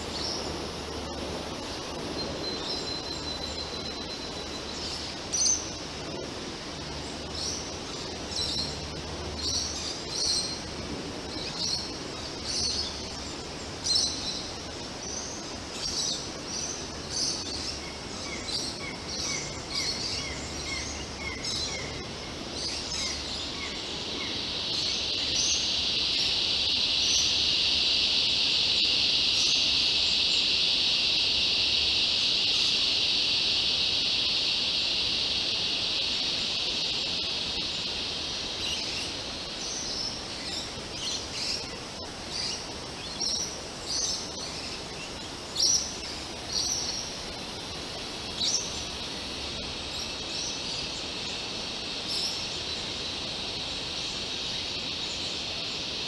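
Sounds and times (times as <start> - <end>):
high insect drone: 0.0 - 56.0
small birds chirping: 0.0 - 56.0.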